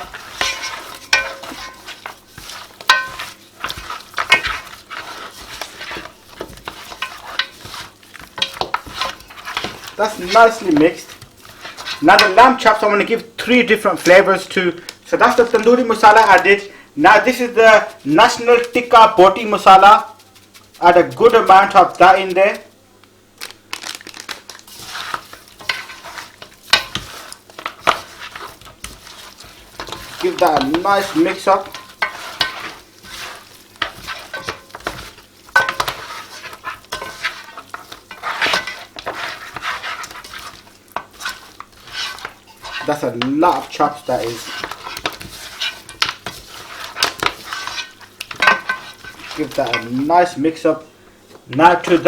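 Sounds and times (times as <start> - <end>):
wet squelching and stirring: 0.0 - 22.8, 23.4 - 52.0.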